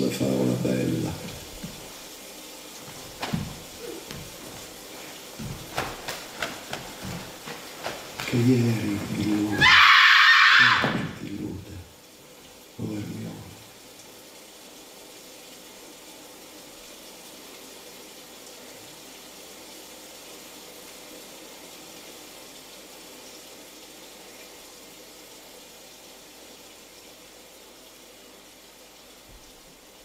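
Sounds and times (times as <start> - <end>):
falling rain hiss: 0.0 - 30.0.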